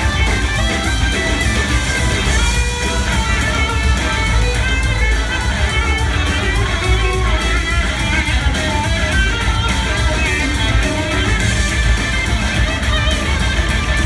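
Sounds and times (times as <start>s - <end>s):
bass: 0.0s - 14.0s
drums: 0.0s - 14.0s
electric guitar bending melodic lines: 0.0s - 14.0s.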